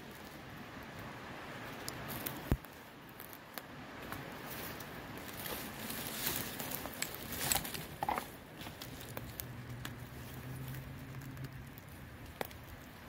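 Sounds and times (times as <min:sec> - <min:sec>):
footsteps through dry brush: 0:01.9 - 0:13.0.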